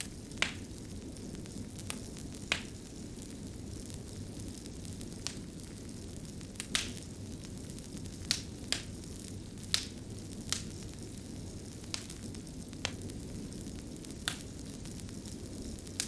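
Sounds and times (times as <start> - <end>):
fire popping: 0.0 - 16.0
low rush of flame: 0.0 - 16.0.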